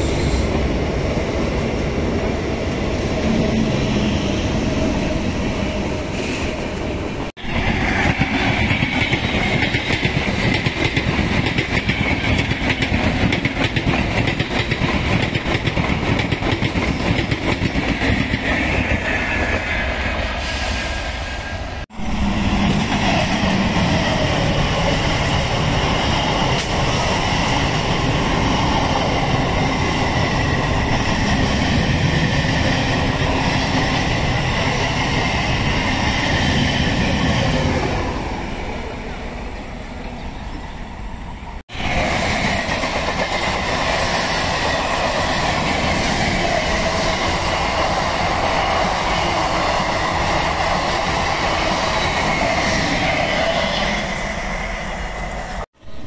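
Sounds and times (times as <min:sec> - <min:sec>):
trains passing at speed: 0:00.0 - 0:56.0.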